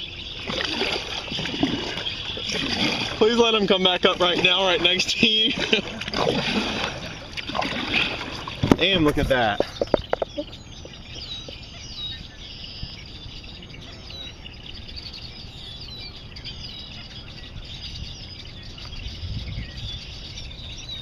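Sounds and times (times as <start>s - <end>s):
birds chirping in chorus: 0.0s - 21.0s.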